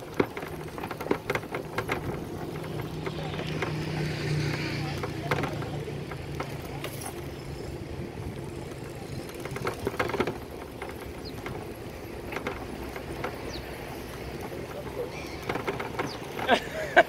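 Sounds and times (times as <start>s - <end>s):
light clicks and knocks: 0.0s - 7.7s, 8.3s - 17.0s
bicycle ride rumble: 0.0s - 17.0s.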